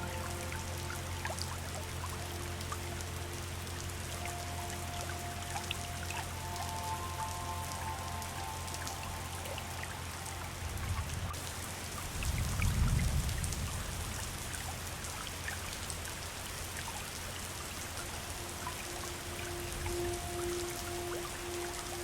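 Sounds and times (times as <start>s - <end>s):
river water flowing: 0.0s - 22.0s
water splashing and dripping: 0.0s - 22.0s.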